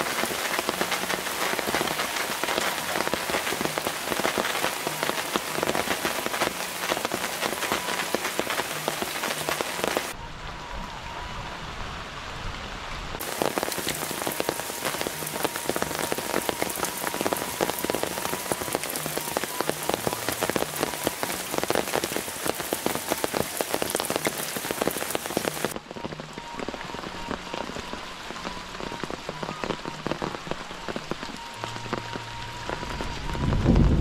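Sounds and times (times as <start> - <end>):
rain patter: 0.0 - 34.0.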